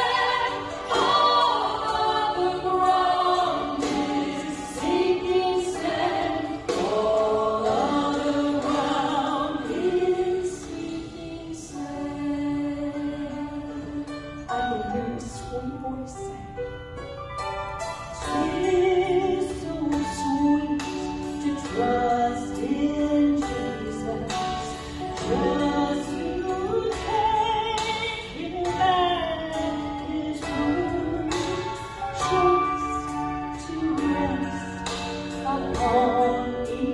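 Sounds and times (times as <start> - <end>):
women singing worship song: 0.0 - 16.3, 18.2 - 36.9
instrumental accompaniment: 0.0 - 36.9.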